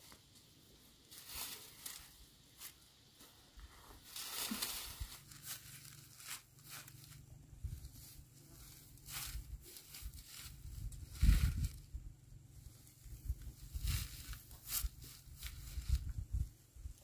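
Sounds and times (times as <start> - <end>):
rustling and crunching: 0.0 - 17.0.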